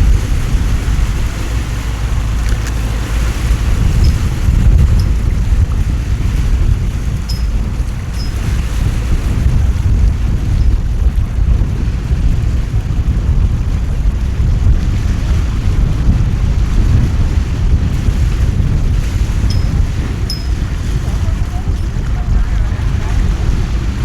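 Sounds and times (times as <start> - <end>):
heavy rain: 0.0 - 24.0
wind buffeting microphone: 0.0 - 24.0.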